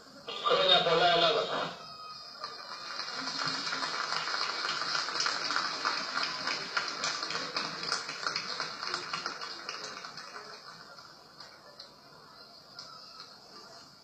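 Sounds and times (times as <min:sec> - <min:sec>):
crowd applauding: 0:02.1 - 0:13.9.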